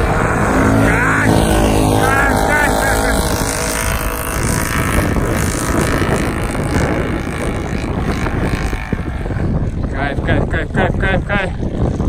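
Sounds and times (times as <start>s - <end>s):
quad engines in snow: 0.0s - 12.0s.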